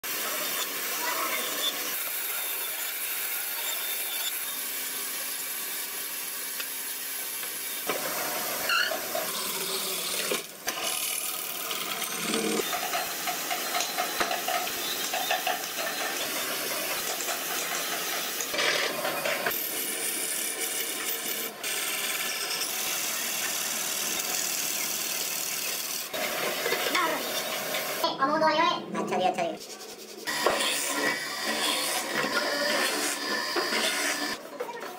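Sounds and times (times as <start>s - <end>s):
bandsaw cutting wood: 0.2s - 28.0s, 30.3s - 34.4s
wood lathe spinning: 0.4s - 28.0s, 30.3s - 34.4s.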